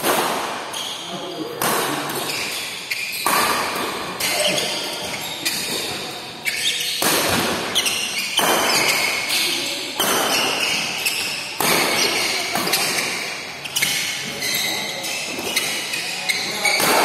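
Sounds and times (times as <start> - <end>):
rackets hitting shuttlecock: 0.0 - 0.9, 1.5 - 14.4, 16.7 - 17.0.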